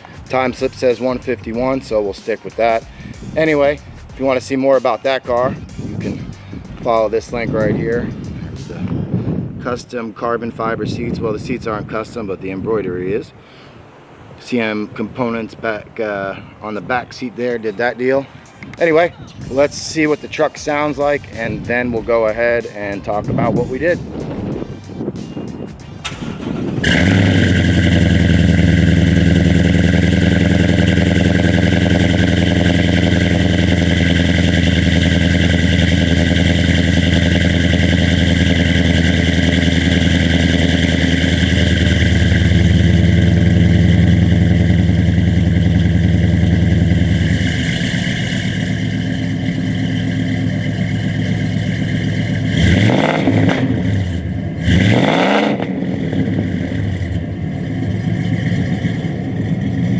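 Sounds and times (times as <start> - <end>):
engine idling and revving: 0.0 - 9.0, 19.4 - 59.9.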